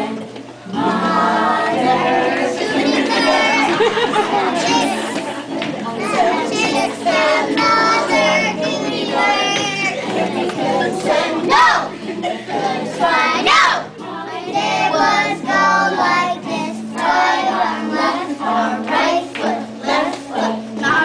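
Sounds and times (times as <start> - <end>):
children singing together: 0.0 - 21.0
musical accompaniment: 0.0 - 21.0.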